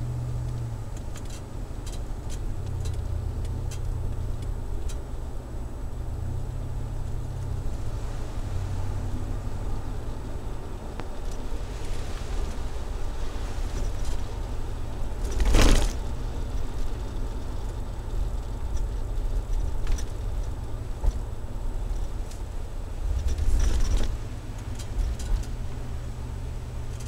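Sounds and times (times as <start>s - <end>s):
engine exhaust low drone: 0.0s - 27.0s.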